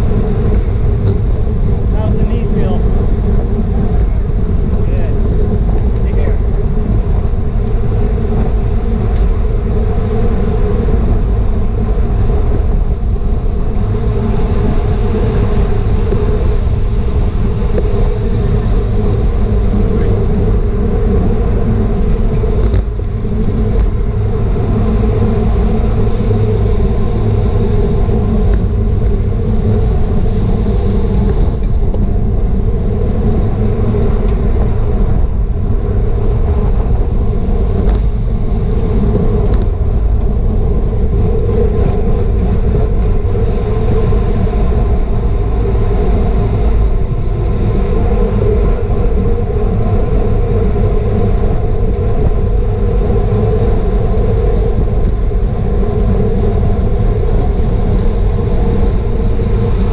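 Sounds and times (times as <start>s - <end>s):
bicycle tyre road noise: 0.0s - 59.9s
wind rushing over microphone: 0.0s - 59.9s.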